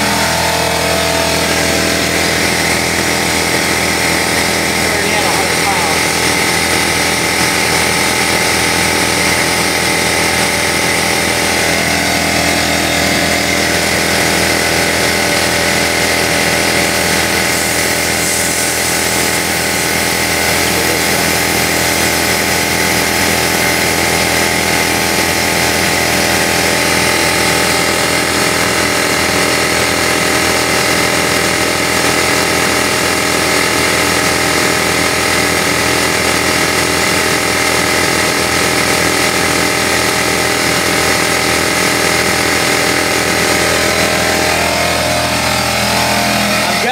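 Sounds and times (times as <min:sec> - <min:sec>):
air compressor running: 0:00.0 - 0:46.9.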